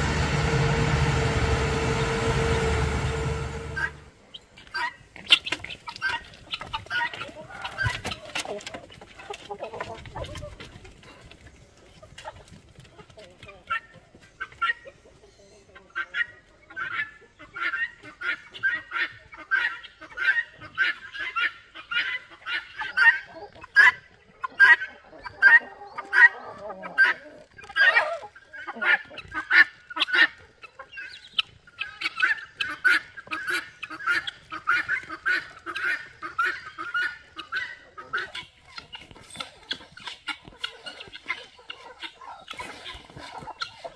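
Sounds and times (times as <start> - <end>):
guineafowl calling: 0.0 - 8.2, 14.4 - 43.9.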